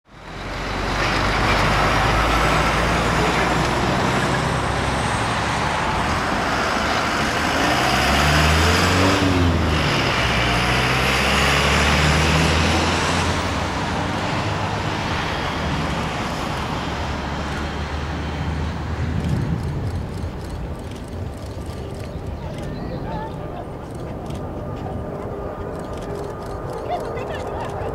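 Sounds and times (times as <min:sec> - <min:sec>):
jet roaring past: 0:00.1 - 0:27.9.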